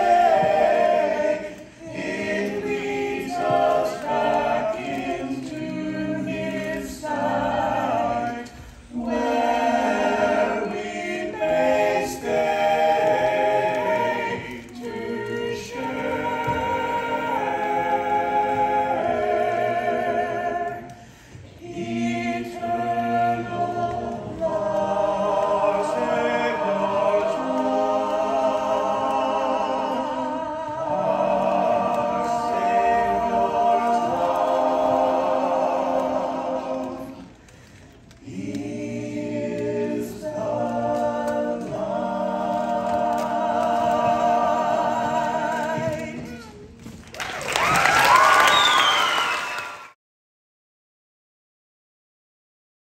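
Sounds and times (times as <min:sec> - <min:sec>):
choir singing a hymn a cappella: 0:00.0 - 0:46.9.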